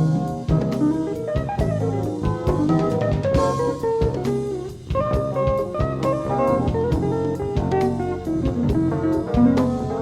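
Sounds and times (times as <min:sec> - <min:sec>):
bass: 0:00.0 - 0:10.0
drum kit beat: 0:00.0 - 0:10.0
electric guitar melody: 0:00.0 - 0:10.0.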